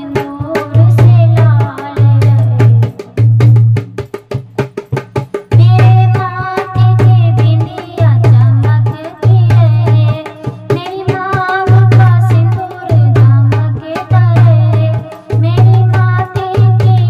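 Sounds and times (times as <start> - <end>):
hand-drum percussion: 0.0 - 17.0.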